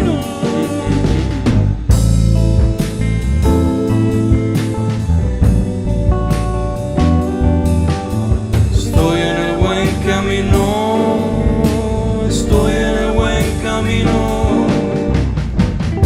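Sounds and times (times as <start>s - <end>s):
bass and guitar: 0.0s - 16.0s
drum kit beat: 0.0s - 16.0s
sliding lead melody: 0.0s - 16.0s.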